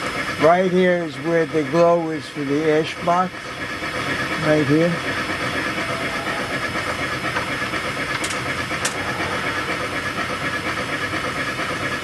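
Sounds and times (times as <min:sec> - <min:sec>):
model locomotive running: 0:00.0 - 0:12.0.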